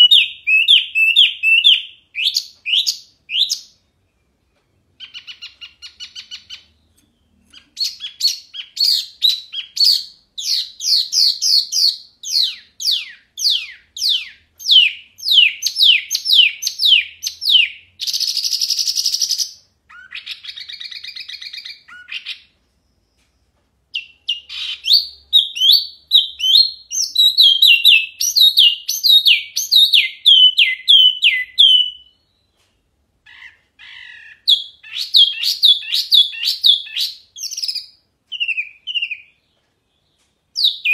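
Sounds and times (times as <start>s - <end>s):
songbird whistling: 0.0s - 3.8s, 5.0s - 22.5s, 23.9s - 32.6s, 33.3s - 39.5s, 40.6s - 40.9s.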